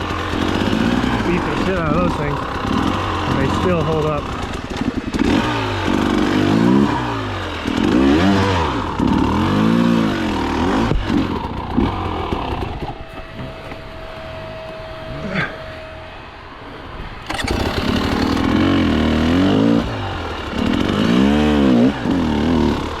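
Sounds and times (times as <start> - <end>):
two-stroke dirt bike engine revving: 0.0 - 12.9, 17.2 - 23.0.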